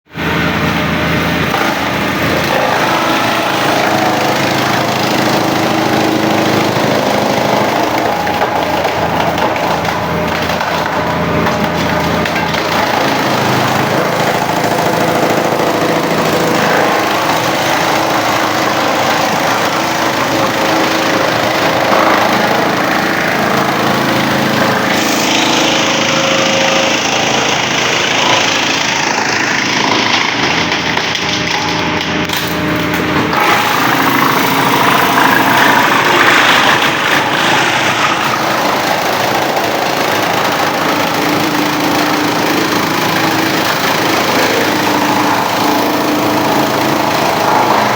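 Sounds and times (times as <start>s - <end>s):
wood chipper engine running: 0.1s - 47.9s.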